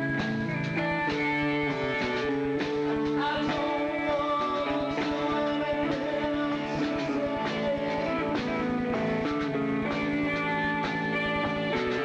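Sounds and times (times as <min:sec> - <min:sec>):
electric guitar: 0:00.0 - 0:12.0
rock band playing live: 0:00.0 - 0:12.0.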